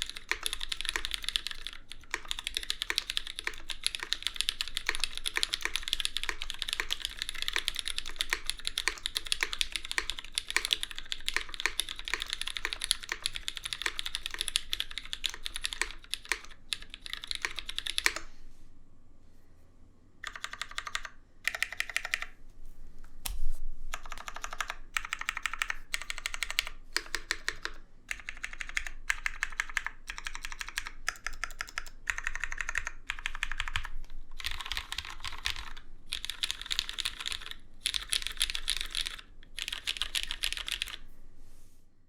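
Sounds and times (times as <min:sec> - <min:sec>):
mechanical keyboard typing: 0:00.0 - 0:18.3, 0:20.2 - 0:22.4, 0:23.9 - 0:41.0.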